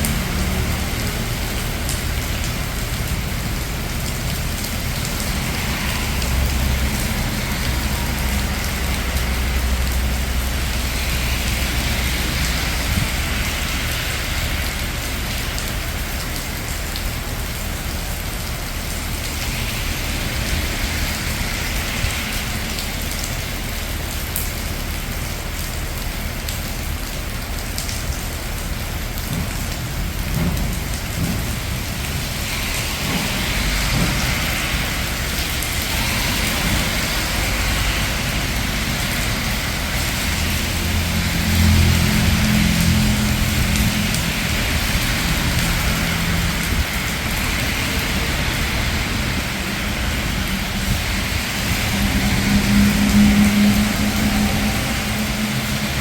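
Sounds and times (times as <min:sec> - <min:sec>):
cars passing on wet road: 0:00.0 - 0:56.0
rain falling on street: 0:00.0 - 0:56.0.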